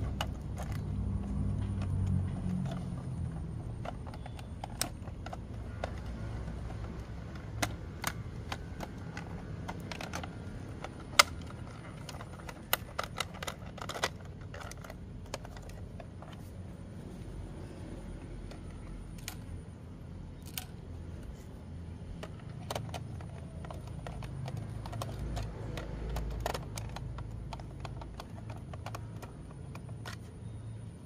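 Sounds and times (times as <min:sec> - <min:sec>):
hard plastic toy clicking: 0:00.0 - 0:16.6, 0:17.4 - 0:31.0.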